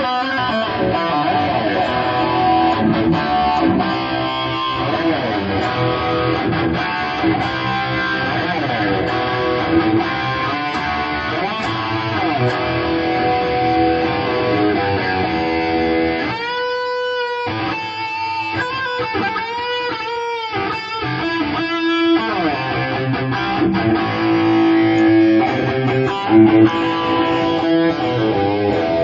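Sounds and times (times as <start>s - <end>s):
electric guitar with string bends: 0.0s - 29.0s.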